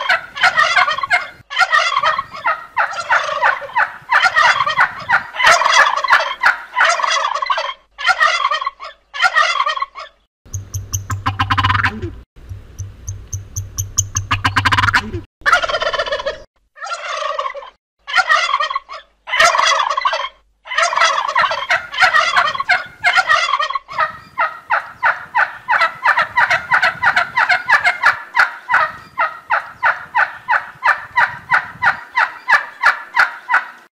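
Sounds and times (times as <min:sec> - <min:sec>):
turkey gobbling: 0:00.0 - 0:12.1, 0:13.3 - 0:33.8.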